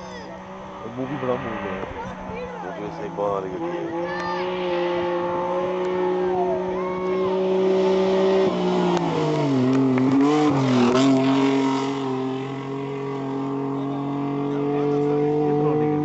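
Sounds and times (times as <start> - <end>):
car engine passing by: 0.0 - 16.0.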